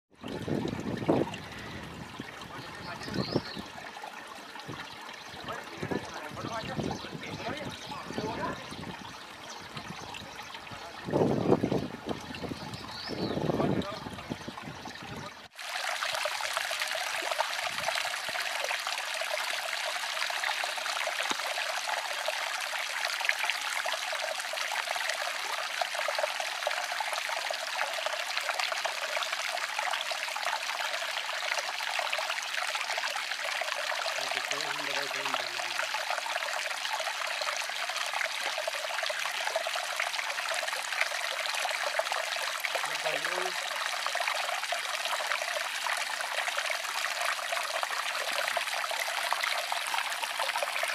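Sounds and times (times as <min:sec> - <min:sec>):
stream water trickling: 0:00.1 - 0:50.9.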